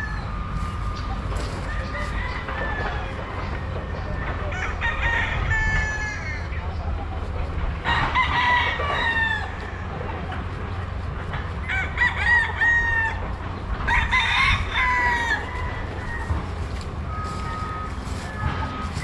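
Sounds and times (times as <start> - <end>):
roosters crowing: 0.0 - 19.0.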